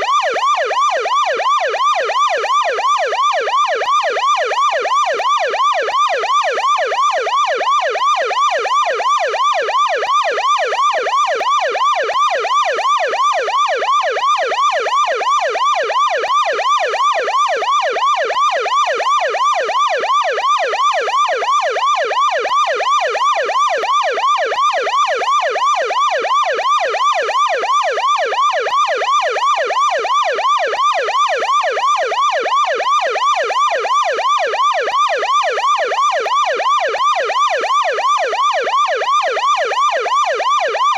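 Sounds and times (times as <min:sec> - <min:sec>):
police siren yelping: 0:00.0 - 0:40.9.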